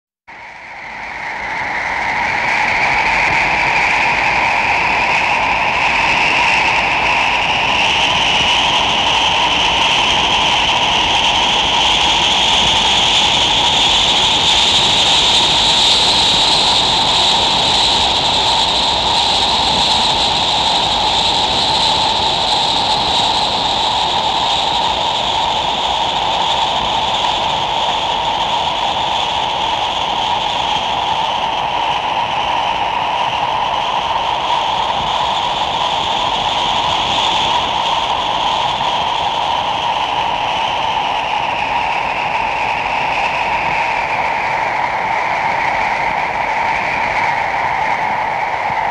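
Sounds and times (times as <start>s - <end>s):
wind blowing with whistling tone: 0.3s - 48.9s.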